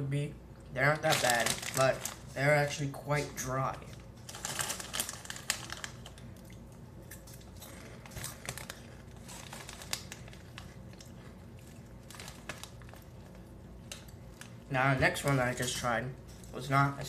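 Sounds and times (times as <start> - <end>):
plastic snack bag crinkling: 0.8 - 16.7.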